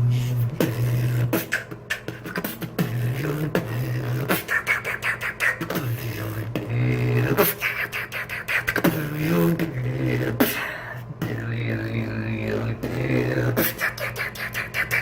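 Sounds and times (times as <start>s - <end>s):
beatboxing vocal bass line: 0.0s - 15.0s
beatboxed hi-hat ticks: 0.4s - 10.5s, 12.6s - 15.0s.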